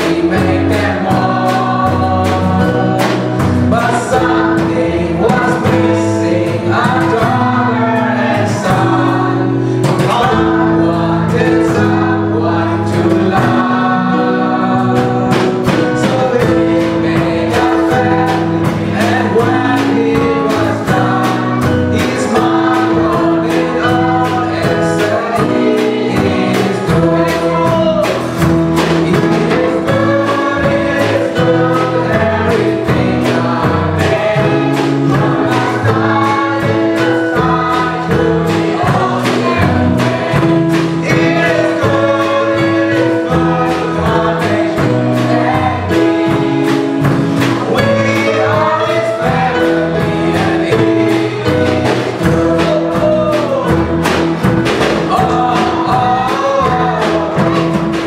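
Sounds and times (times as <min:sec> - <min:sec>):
children's choir singing gospel: 0:00.0 - 0:58.0
steady beat: 0:00.0 - 0:58.0
sustained keyboard notes: 0:00.0 - 0:58.0.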